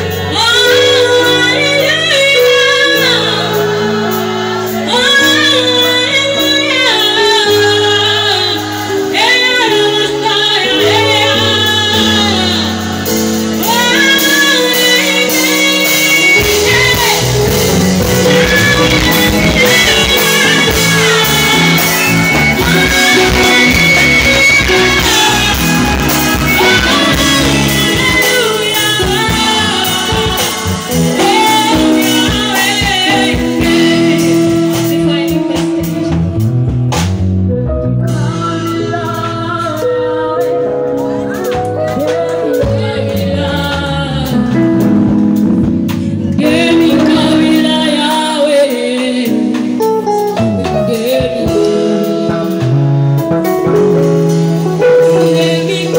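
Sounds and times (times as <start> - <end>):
woman singing into a microphone: 0.0 - 36.4, 37.8 - 52.8, 53.4 - 55.9
drum kit: 0.0 - 55.9
keyboard: 0.0 - 55.9.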